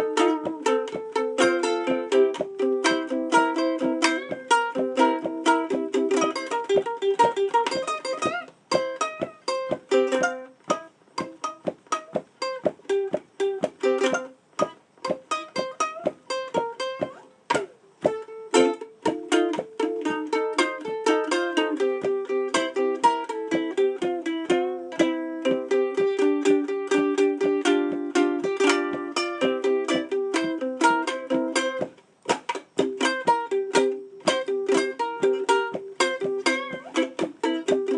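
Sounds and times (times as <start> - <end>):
acoustic plucked-string blues: 0.0 - 37.9.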